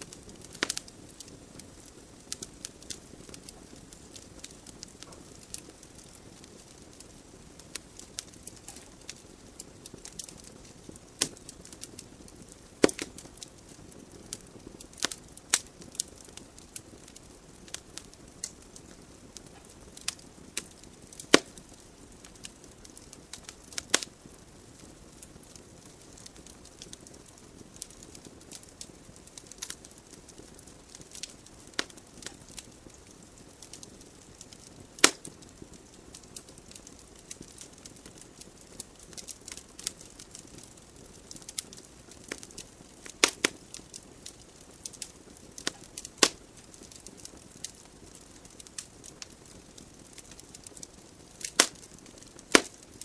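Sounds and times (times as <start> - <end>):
wood logs crackling and popping: 0.0 - 53.0.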